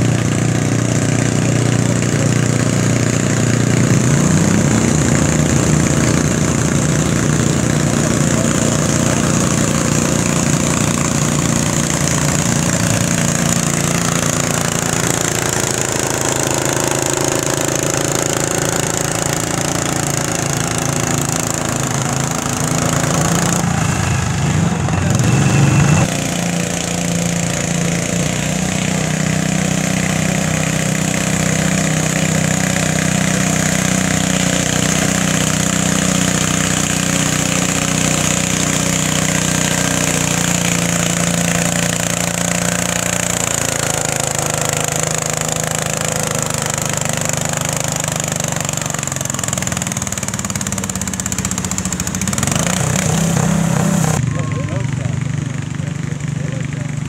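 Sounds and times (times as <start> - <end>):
tractor engines running hard: 0.0 - 57.0.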